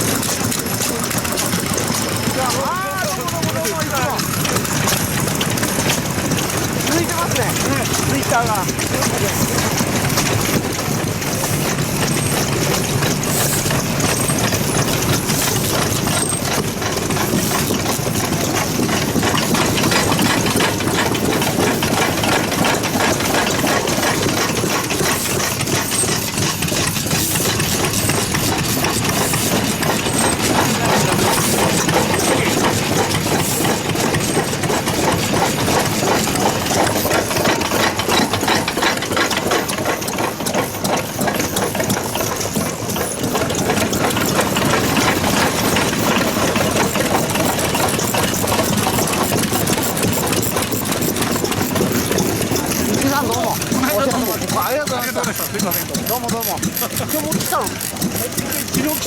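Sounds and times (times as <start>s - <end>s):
stationary engines knocking: 0.0s - 59.0s.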